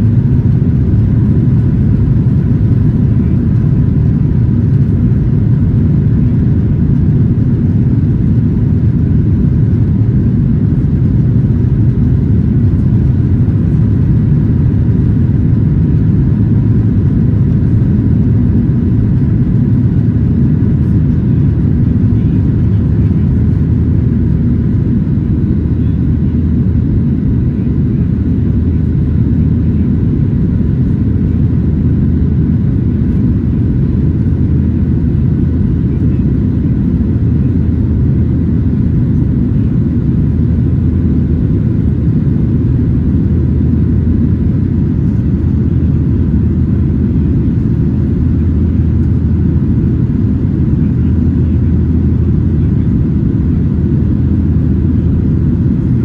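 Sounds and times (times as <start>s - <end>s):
faint steady whine: 0.0s - 56.0s
jet engines rumbling: 0.0s - 56.0s.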